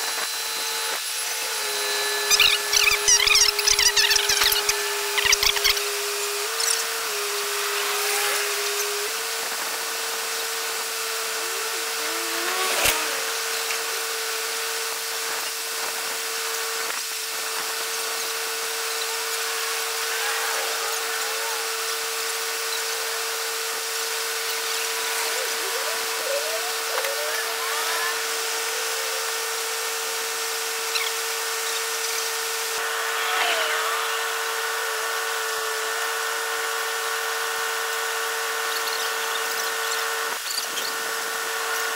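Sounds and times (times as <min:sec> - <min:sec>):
steady machine whine: 0:00.0 - 0:41.9.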